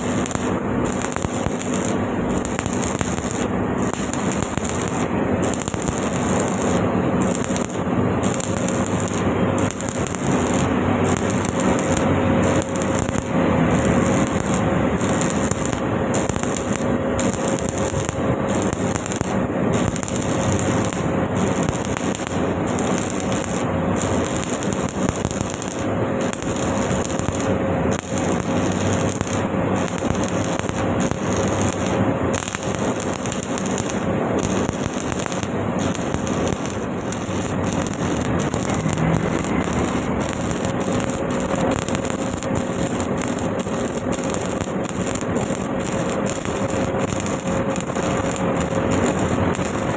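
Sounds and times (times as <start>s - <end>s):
steady hum: 0.0s - 49.9s
welding arc crackling: 0.0s - 49.9s.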